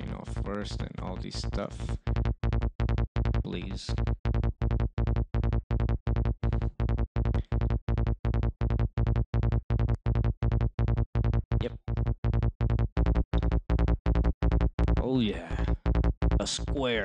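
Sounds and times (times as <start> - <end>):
synth bass line repeating notes: 0.0 - 17.0.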